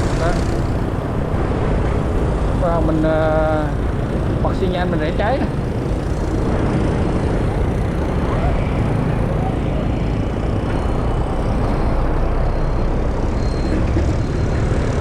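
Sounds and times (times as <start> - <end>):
motorcycle engine and road rumble: 0.0 - 15.0.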